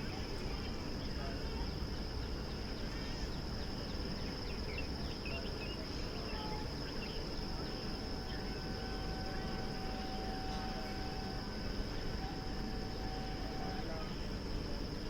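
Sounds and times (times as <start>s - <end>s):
faint steady tone: 0.0s - 15.0s
insects trilling: 0.0s - 15.0s
low outdoor rumble: 0.0s - 15.0s.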